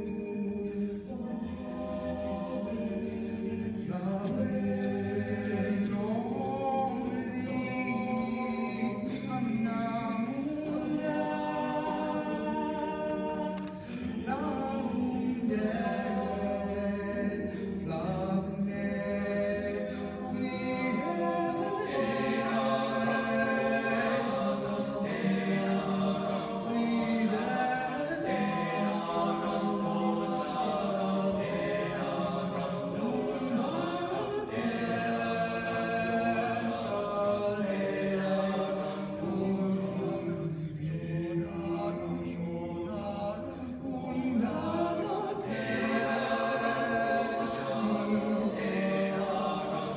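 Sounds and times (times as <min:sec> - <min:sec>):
a cappella choir singing: 0:00.0 - 0:49.9.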